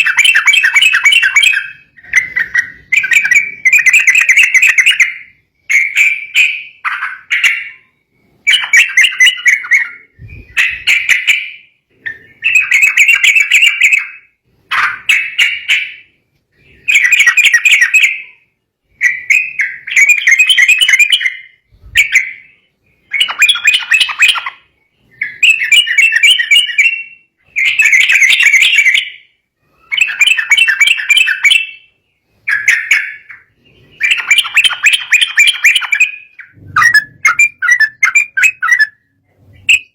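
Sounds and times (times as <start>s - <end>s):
bird bubbly chattering song: 0.0s - 39.9s.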